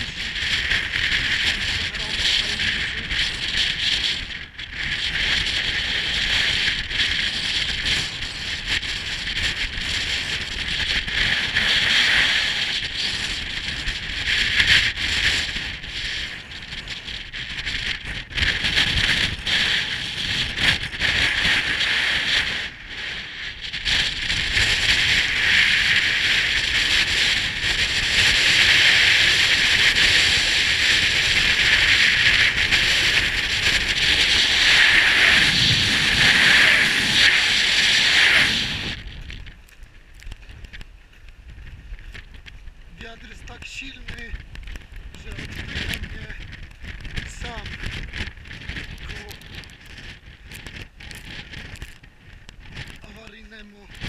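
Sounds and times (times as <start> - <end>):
gusting wind buffeting microphone: 0.0 - 54.0.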